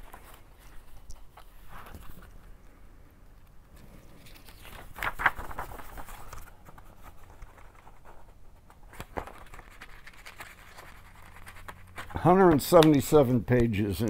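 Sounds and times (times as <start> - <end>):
paper pages rustling: 0.0 - 2.5, 3.7 - 13.9.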